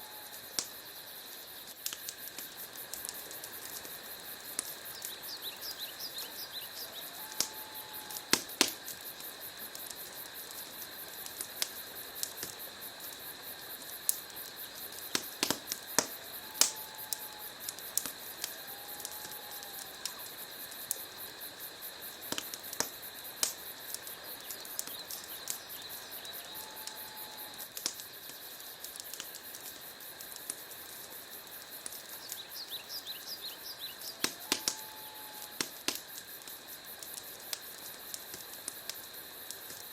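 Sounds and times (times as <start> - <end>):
fire crackling and popping: 0.0 - 39.9
fire hissing: 0.0 - 39.9.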